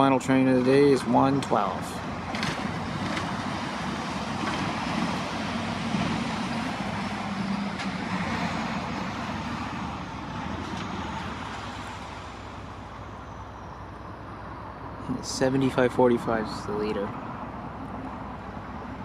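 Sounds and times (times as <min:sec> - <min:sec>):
diesel locomotives droning: 0:00.0 - 0:19.0.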